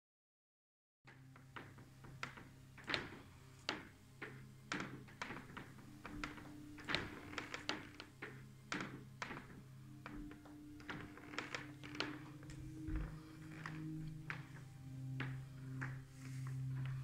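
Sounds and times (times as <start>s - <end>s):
low sustained tones: 1.2s - 17.0s.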